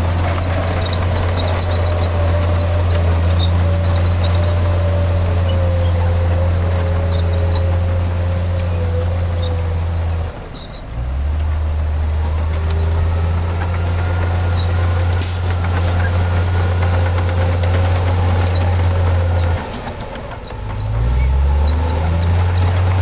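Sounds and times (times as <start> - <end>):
heavy diesel engine idling: 0.0 - 23.0.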